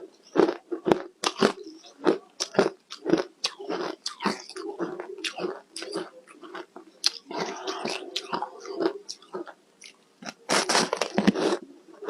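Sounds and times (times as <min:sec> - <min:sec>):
ice being chewed: 0:00.2 - 0:11.6.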